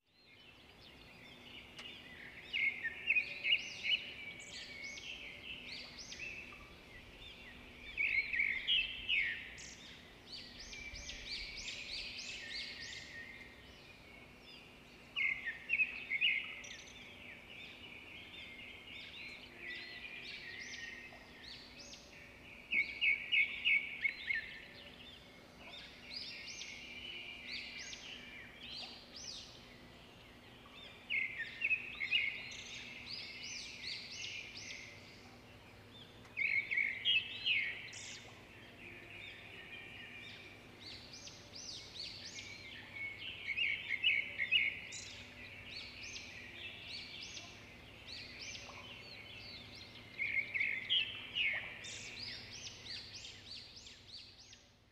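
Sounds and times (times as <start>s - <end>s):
birds chirping and calling: 1.4s - 54.6s.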